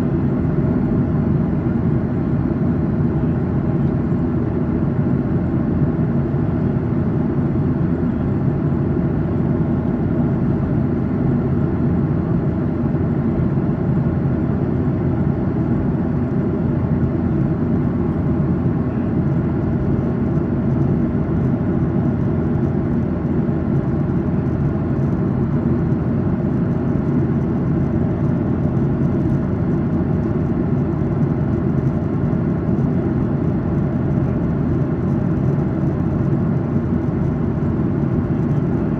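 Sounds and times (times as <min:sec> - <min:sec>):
jet engine cabin roar: 0:00.0 - 0:38.9.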